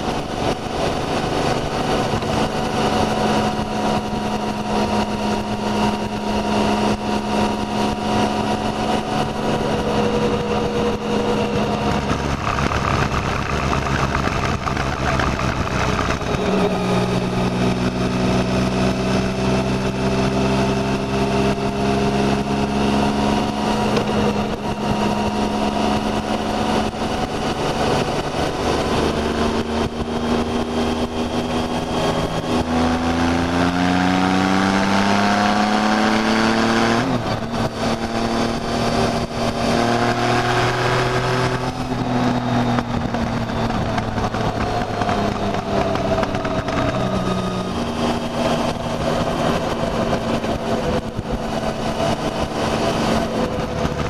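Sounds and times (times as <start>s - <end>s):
motorcycle engine: 0.0s - 54.0s
wind rush over microphone: 0.0s - 54.0s.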